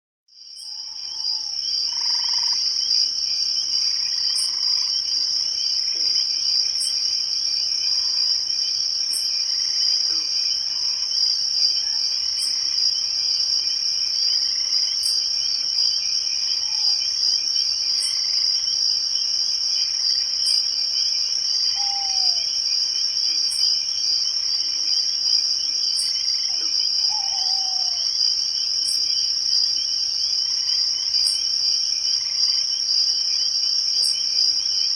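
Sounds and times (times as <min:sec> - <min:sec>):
crickets trilling: 0:00.4 - 0:34.9.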